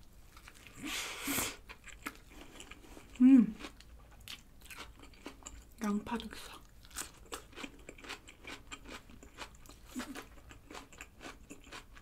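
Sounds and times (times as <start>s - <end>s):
person chewing: 0.3s - 12.0s.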